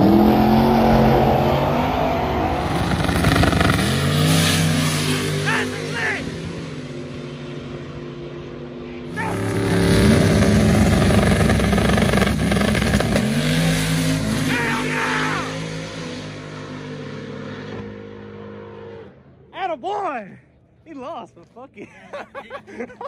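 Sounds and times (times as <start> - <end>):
drag car engine at full throttle: 0.0 - 19.4.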